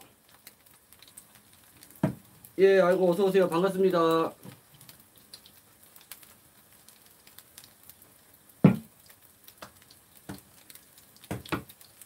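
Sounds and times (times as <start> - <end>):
pancake sizzling in oil: 0.0 - 12.0.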